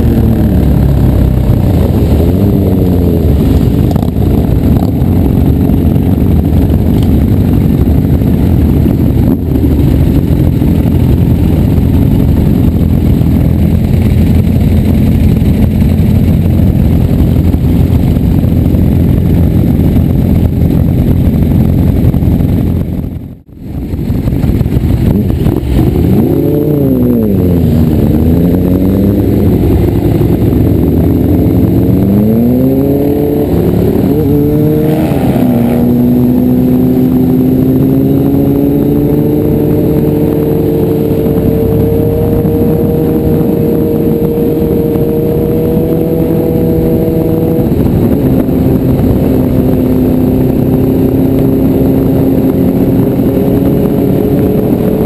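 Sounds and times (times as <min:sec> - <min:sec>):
heavy wind rush: 0:00.0 - 0:55.0
motorcycle engine revving: 0:00.0 - 0:55.0.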